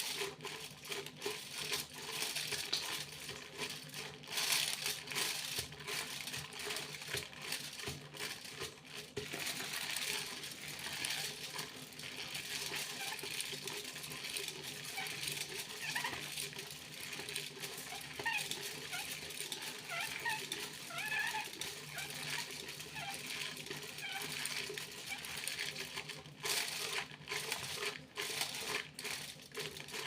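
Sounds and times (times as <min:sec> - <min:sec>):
aluminium foil crinkling: 0:00.0 - 0:30.0.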